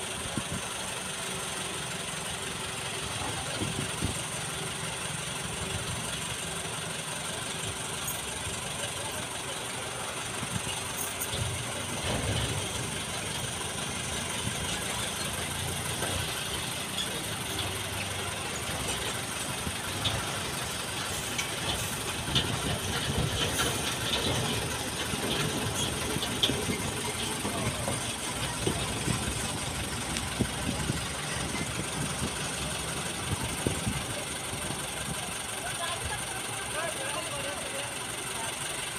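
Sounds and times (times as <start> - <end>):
concrete mixer truck engine: 0.0 - 38.9
heavy trucks passing: 0.0 - 38.9.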